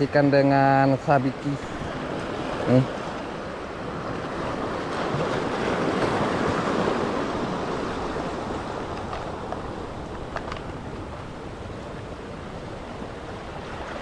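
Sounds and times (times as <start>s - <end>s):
surf washing over rocks: 0.0s - 14.0s.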